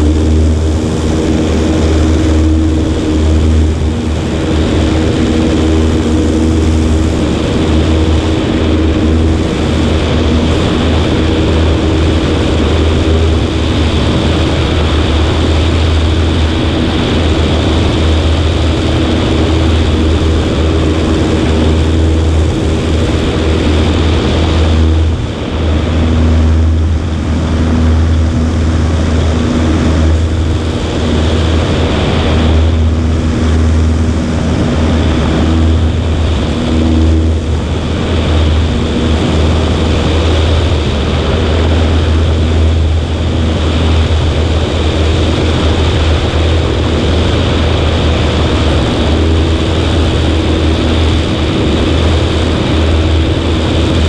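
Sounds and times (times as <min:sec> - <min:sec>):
propeller plane engine drone: 0:00.0 - 0:54.0
wind on microphone: 0:00.0 - 0:54.0.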